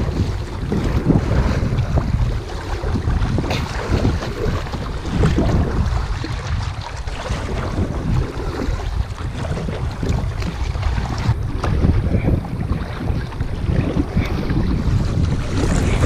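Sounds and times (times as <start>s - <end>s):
water splashing and lapping: 0.0s - 16.0s
wind buffeting microphone: 0.0s - 16.0s.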